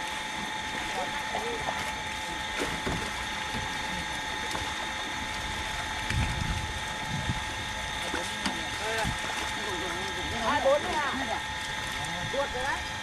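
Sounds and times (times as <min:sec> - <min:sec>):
water jet splashing into pond: 0:00.0 - 0:13.0
water pump droning: 0:00.0 - 0:13.0.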